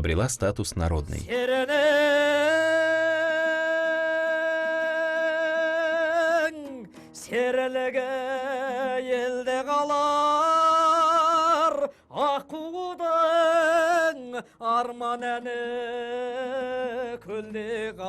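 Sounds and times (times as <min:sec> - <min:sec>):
man singing folk song: 0:01.2 - 0:18.0.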